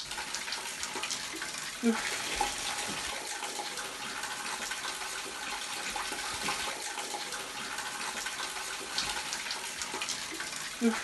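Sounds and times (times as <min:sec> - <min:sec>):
water streaming and splashing: 0:00.0 - 0:11.0.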